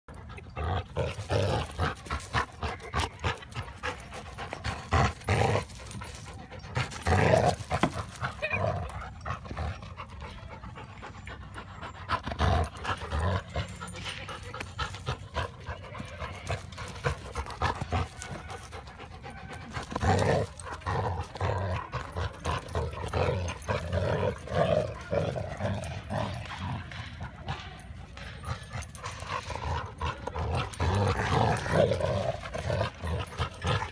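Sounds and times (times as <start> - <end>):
dogs panting: 0.0 - 33.9
dogs growling: 0.1 - 33.9.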